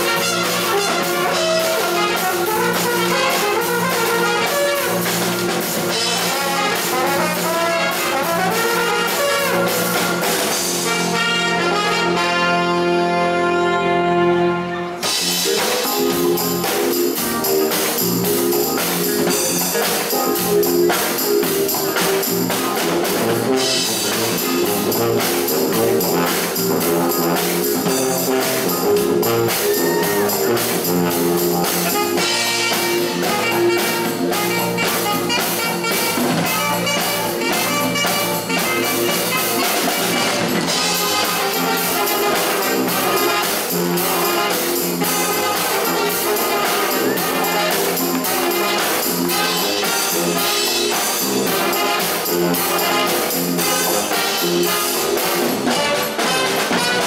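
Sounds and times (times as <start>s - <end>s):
brass band with drums playing: 0.0s - 57.0s.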